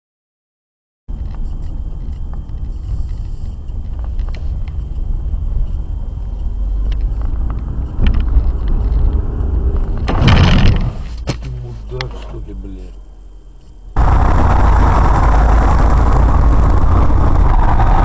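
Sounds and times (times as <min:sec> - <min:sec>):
car engine and road rumble: 0:01.1 - 0:18.0.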